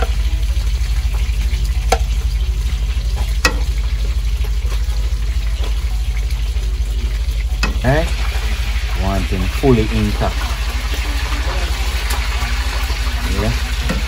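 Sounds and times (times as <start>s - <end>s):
food sizzling in a pot: 0.0s - 14.0s
low rumble: 0.0s - 14.0s.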